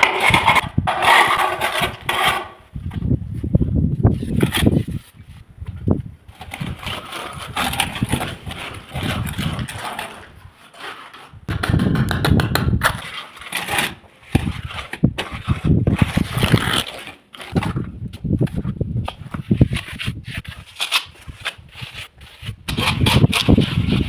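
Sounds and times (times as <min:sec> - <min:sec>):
scraping and rubbing: 0:00.0 - 0:24.0.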